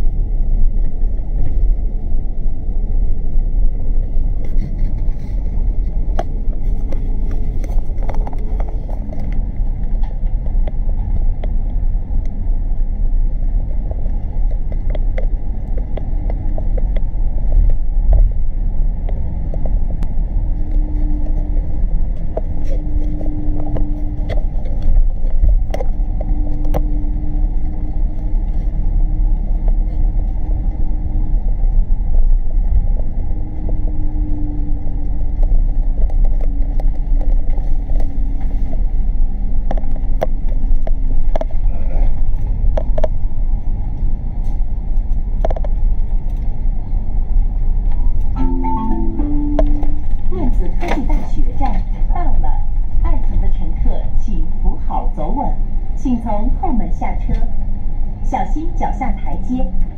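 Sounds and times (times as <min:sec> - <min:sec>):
bus driving rumble: 0:00.0 - 0:59.9
engine hum: 0:00.0 - 0:59.9.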